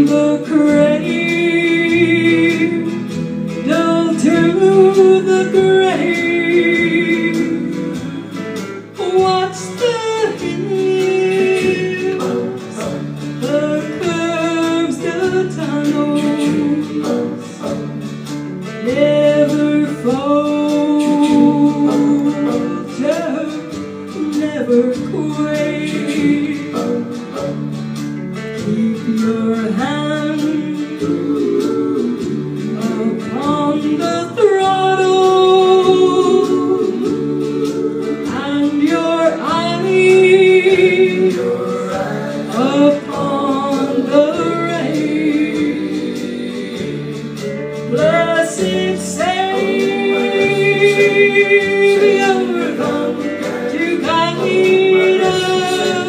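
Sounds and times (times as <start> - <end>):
woman singing gospel song: 0.0 - 17.9, 18.7 - 27.2, 28.6 - 56.0
instrumental accompaniment: 0.0 - 56.0.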